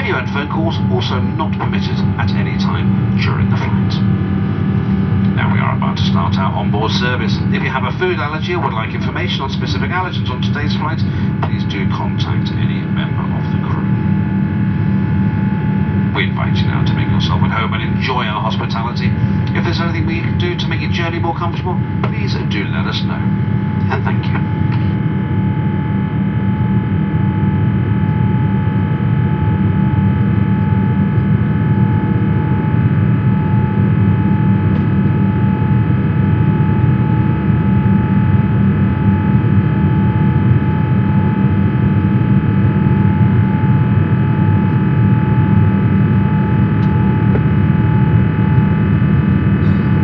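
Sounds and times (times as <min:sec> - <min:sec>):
jet engines droning: 0:00.0 - 0:50.0
steady hum tones: 0:00.0 - 0:50.0.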